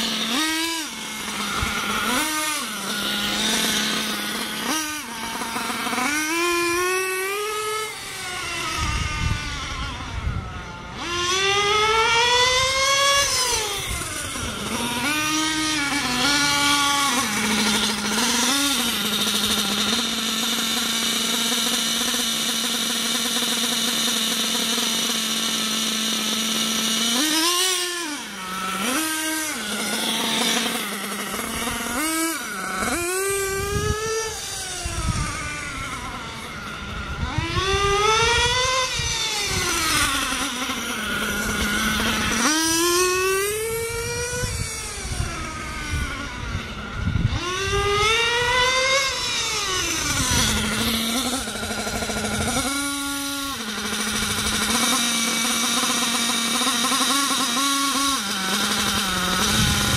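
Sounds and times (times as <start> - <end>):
small model engine revving: 0.0 - 59.9.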